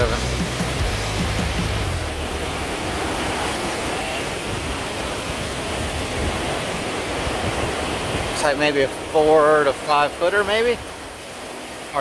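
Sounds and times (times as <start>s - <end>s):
ocean waves breaking on beach: 0.0s - 12.0s.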